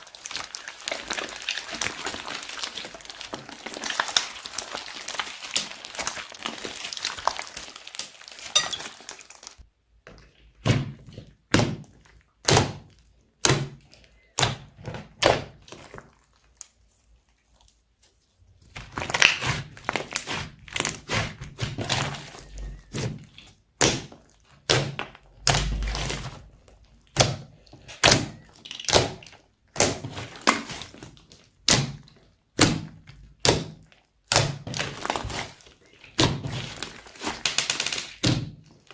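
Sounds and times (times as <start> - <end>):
slime crackling: 0.0 - 9.7, 10.4 - 38.9.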